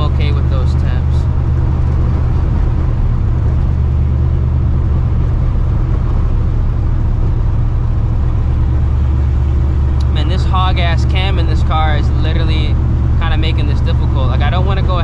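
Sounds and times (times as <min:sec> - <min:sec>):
deep car exhaust rumble: 0:00.0 - 0:15.0.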